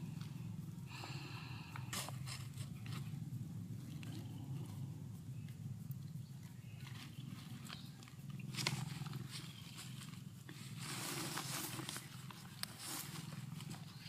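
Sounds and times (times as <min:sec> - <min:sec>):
cat purring: 0:00.0 - 0:14.0
rustle: 0:00.0 - 0:14.0.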